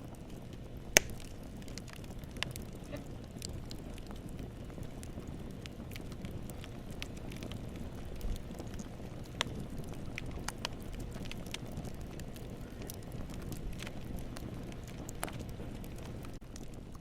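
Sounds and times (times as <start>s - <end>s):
fire rumbling: 0.0s - 17.0s
wood crackling and popping: 0.0s - 17.0s.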